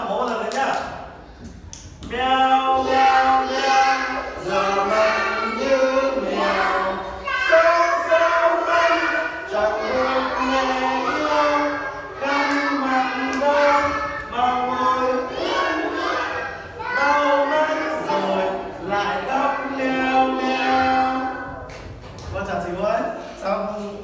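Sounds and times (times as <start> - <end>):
children singing in unison: 2.1 - 21.9.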